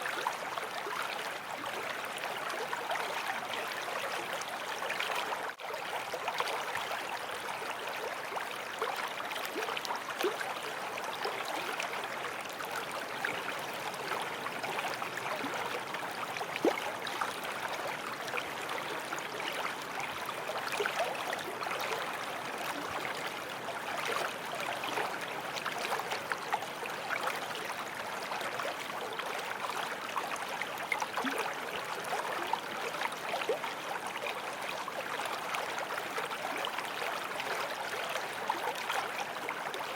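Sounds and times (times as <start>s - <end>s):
creek water rushing: 4.8s - 39.9s.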